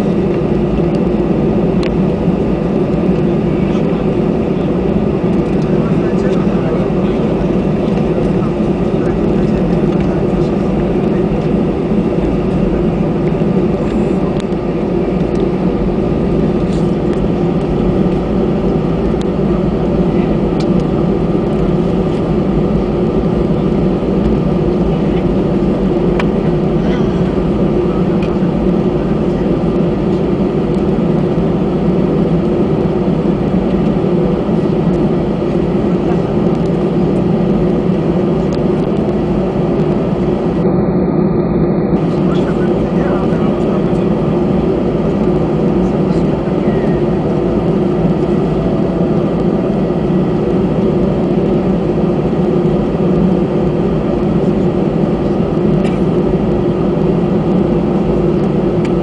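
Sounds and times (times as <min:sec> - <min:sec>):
jet engine hum and rumble: 0:00.0 - 0:59.0.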